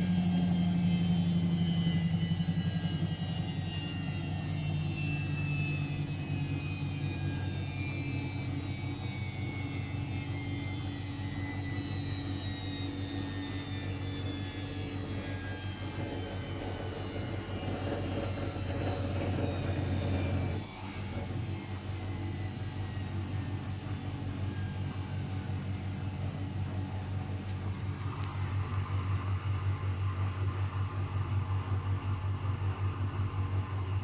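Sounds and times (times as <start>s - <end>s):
washing machine spinning: 0.0s - 34.0s.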